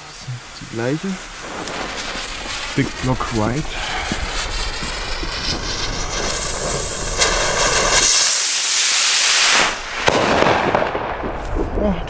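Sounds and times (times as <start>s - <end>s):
fuse sizzling and sputtering: 0.0s - 10.0s
rocket whooshing hiss: 0.0s - 11.8s
sharp crack: 0.2s - 12.0s.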